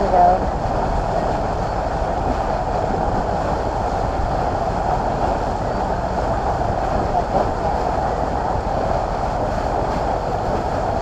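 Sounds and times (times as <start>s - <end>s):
boat engine droning: 0.0s - 11.0s
water noise: 0.0s - 11.0s.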